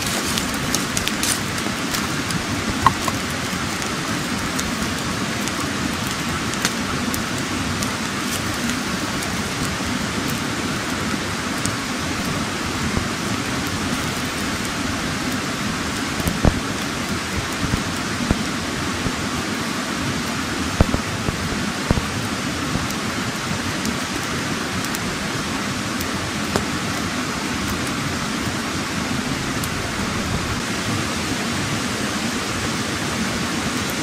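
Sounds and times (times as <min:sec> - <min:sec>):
campfire crackling: 0:00.0 - 0:34.0
steady rushing hiss: 0:00.0 - 0:34.0.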